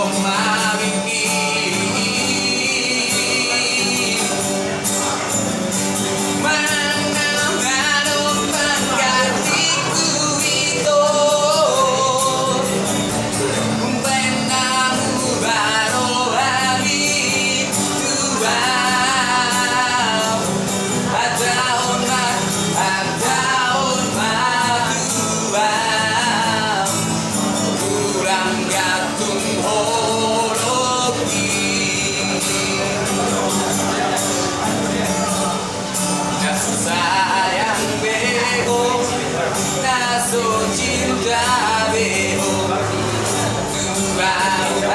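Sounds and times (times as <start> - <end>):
man singing ballad: 0.0 - 44.9.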